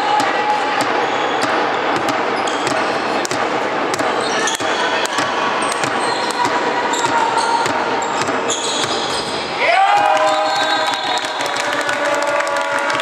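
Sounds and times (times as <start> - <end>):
sneakers squeaking: 0.0 - 11.3.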